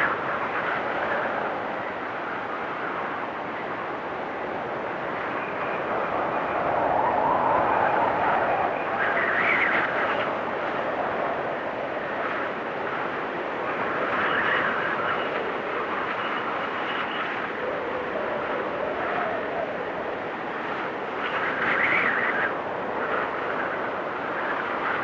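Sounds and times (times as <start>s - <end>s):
blizzard wind gusting: 0.0s - 25.0s.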